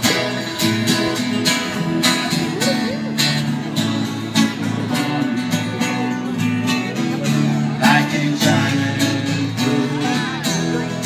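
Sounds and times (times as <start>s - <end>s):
strummed acoustic guitars: 0.0s - 11.0s.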